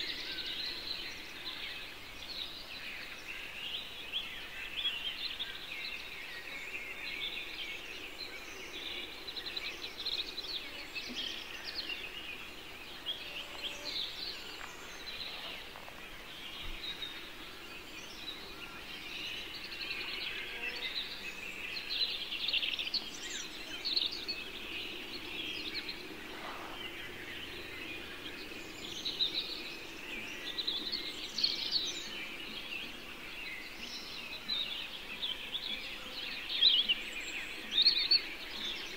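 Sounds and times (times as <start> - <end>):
birds chirping and singing: 0.0 - 38.9
faint steady background noise: 0.0 - 38.9.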